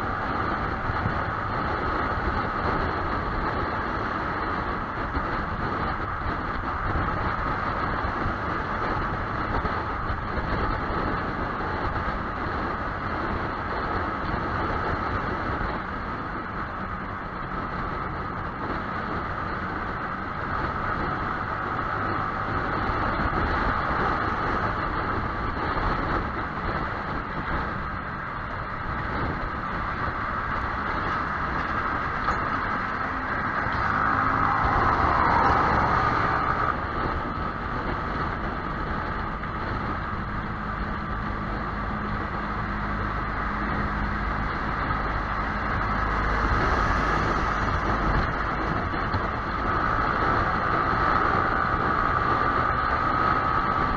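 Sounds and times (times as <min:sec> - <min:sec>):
motorcycle engine running: 0:00.0 - 0:53.9
wind and road rush: 0:00.0 - 0:53.9.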